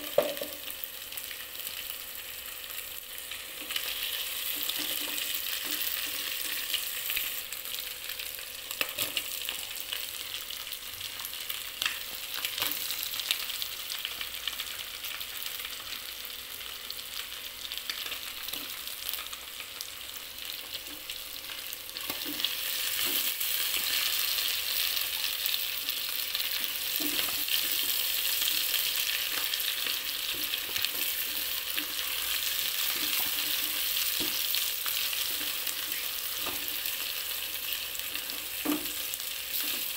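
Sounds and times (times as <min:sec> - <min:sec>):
oil sizzling: 0:00.0 - 0:39.9.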